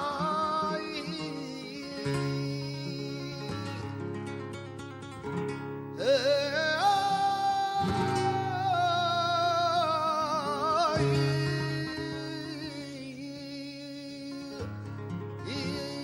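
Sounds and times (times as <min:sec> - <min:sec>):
acoustic flamenco guitar: 0:00.0 - 0:16.0.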